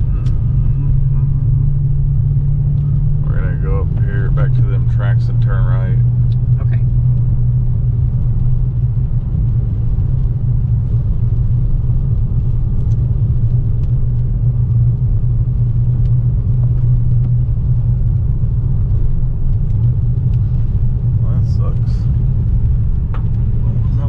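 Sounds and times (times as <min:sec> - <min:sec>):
car driving cabin rumble: 0:00.0 - 0:24.0.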